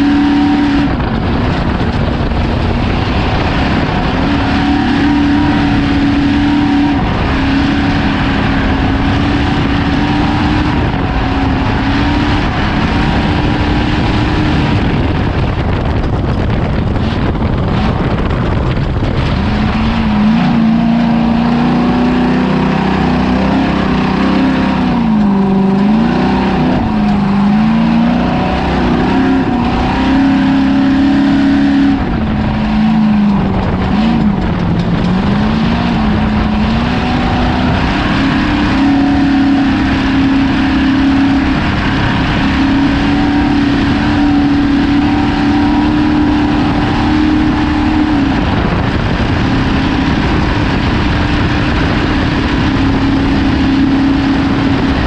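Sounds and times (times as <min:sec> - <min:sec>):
rush of noise: 0:00.0 - 0:55.0
truck engine running hard: 0:00.0 - 0:55.0.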